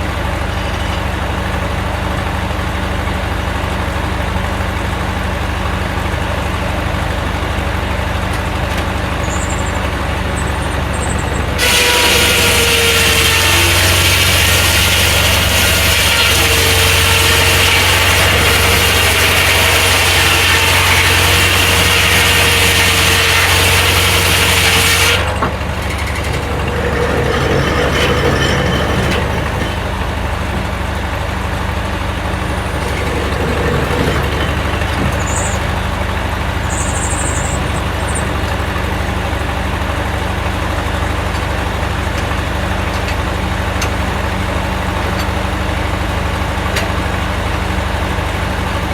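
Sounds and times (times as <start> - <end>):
sawmill engine drone: 0.0 - 48.9
circular saw cutting log: 4.7 - 47.6.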